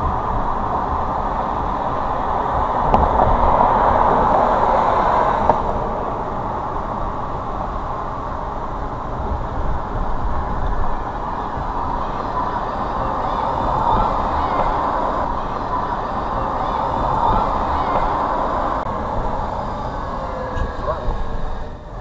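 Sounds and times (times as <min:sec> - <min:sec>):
car road and tyre noise: 0:00.0 - 0:22.0.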